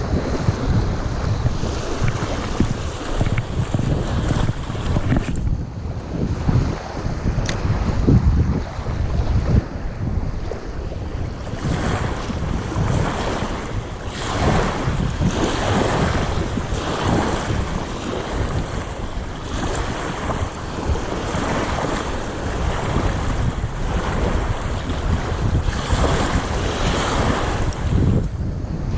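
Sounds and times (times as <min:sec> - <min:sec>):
waves splashing against boat: 0:00.0 - 0:28.9
wind buffeting microphone: 0:00.0 - 0:28.9.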